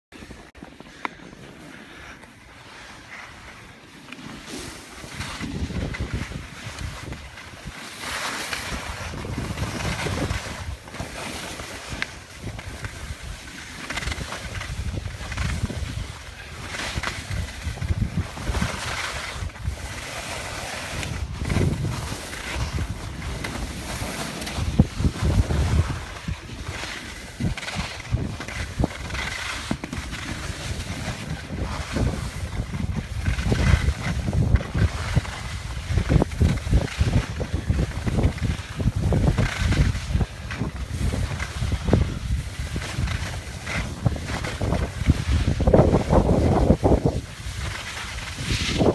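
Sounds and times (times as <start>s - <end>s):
skis scraping over snow: 0.2s - 48.9s
wind buffeting microphone: 5.1s - 7.8s, 8.5s - 11.0s, 11.8s - 48.9s.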